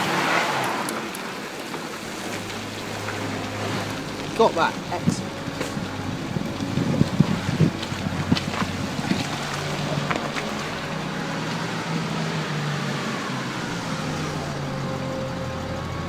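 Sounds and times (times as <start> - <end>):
wind noise: 0.0 - 16.0
vehicle engine running: 1.1 - 16.0.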